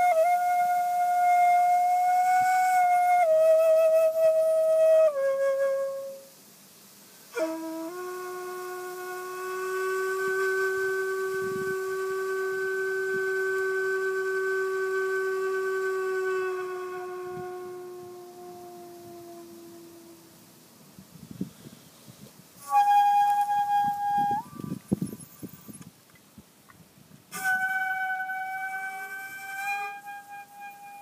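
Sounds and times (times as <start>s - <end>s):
bamboo flute notes: 0.0s - 6.4s, 7.3s - 20.7s, 21.4s - 26.0s, 27.3s - 31.0s.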